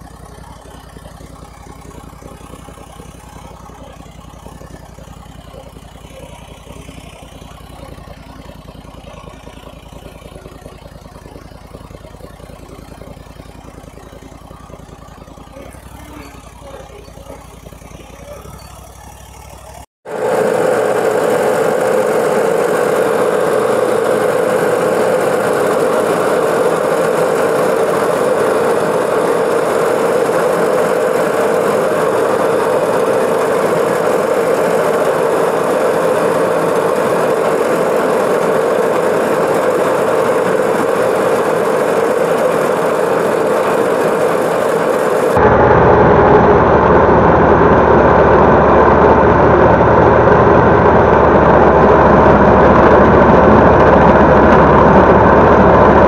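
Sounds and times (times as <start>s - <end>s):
riding mower engine running: 0.0s - 56.0s.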